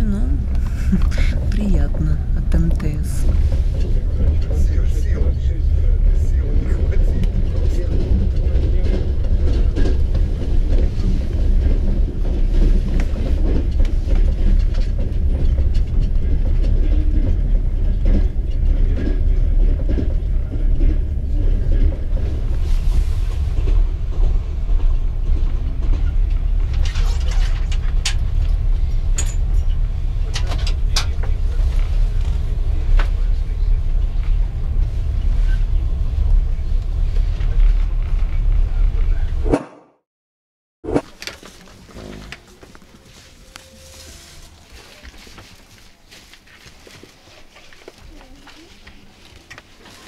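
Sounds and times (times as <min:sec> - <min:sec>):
heavy rumble of train wheels: 0:00.0 - 0:39.5, 0:41.1 - 0:50.0.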